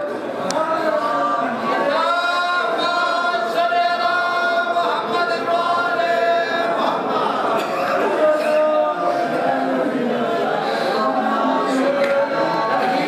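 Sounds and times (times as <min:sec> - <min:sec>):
voices chanting in unison: 0:00.8 - 0:13.0.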